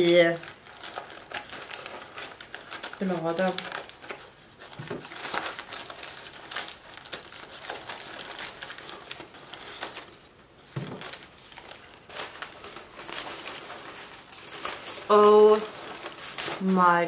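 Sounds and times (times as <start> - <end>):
packing paper crinkling: 0.0 - 17.0.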